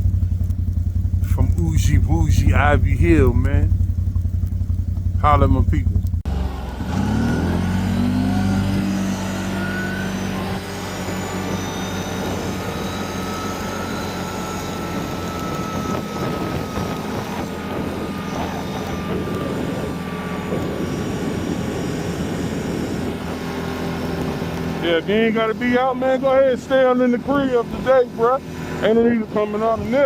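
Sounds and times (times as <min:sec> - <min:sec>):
vehicle engine pulling away: 0:00.0 - 0:27.0.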